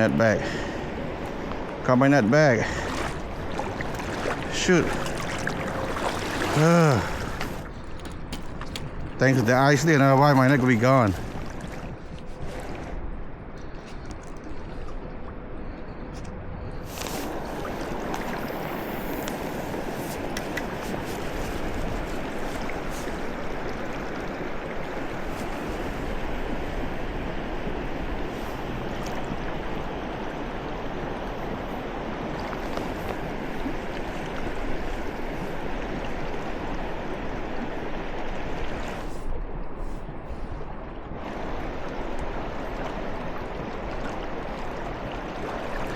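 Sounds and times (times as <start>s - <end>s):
river water rushing: 0.0s - 13.2s, 16.9s - 39.1s, 41.1s - 45.9s.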